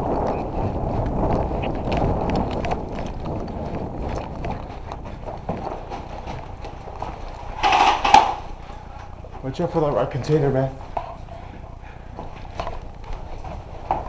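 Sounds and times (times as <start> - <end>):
footsteps: 0.0 - 14.0
gear rustling and knocking: 0.0 - 14.0
microphone rumble: 0.0 - 14.0.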